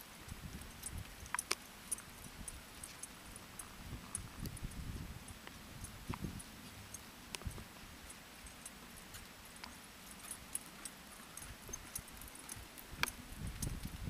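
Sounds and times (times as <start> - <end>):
tack jingling and clicking: 0.0 - 14.0.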